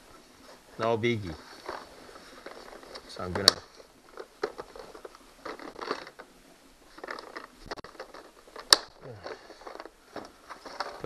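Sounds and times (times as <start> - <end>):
small metal clicks and rattles: 1.4 - 6.3, 6.9 - 11.0.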